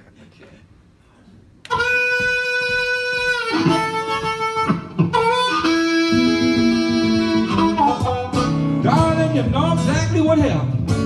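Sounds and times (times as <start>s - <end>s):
blues harmonica: 1.6s - 11.0s
acoustic guitar: 1.8s - 11.0s.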